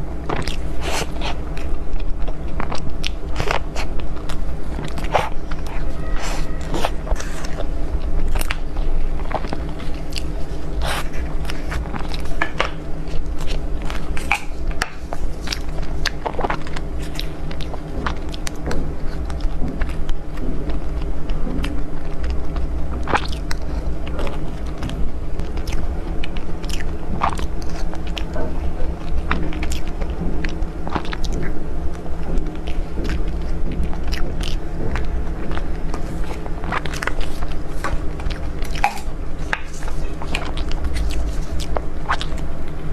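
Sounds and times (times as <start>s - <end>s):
biting and chewing: 0.0s - 42.9s
steady low hum: 0.0s - 42.9s.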